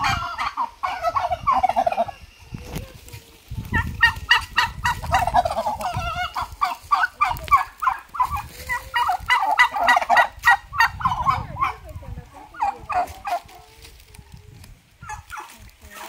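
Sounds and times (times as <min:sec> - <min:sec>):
turkeys gobbling: 0:00.0 - 0:14.0, 0:15.0 - 0:16.0.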